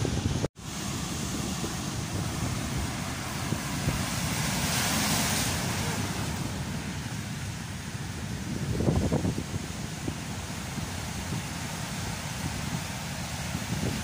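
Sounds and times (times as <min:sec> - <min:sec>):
wind buffeting microphone: 0:00.0 - 0:14.0
surf breaking against seawall: 0:00.4 - 0:14.0.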